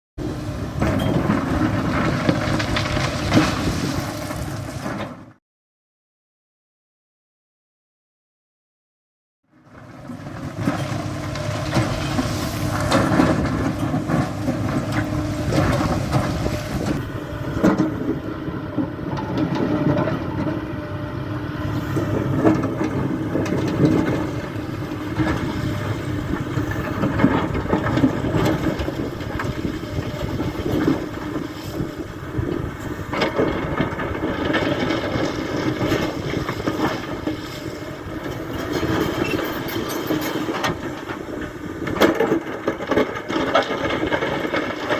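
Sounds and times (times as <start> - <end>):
excavator diesel engine running: 0.2 - 5.4, 9.6 - 44.9.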